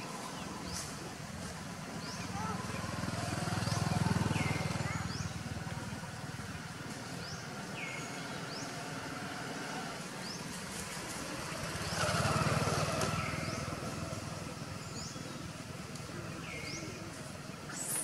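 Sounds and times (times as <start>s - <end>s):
low engine hum: 0.0s - 17.9s.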